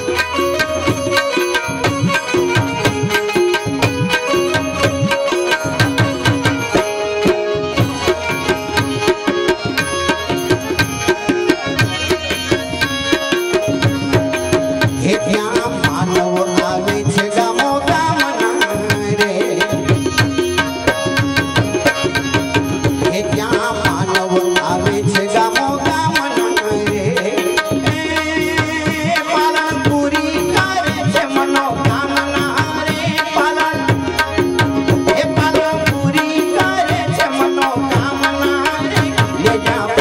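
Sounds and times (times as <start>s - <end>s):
tabla drumming: 0.0s - 40.0s.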